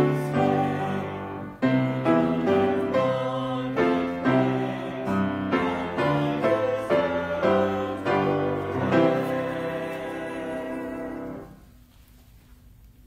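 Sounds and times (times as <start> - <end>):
hymn singing: 0.0 - 11.8
piano accompaniment: 0.0 - 11.8.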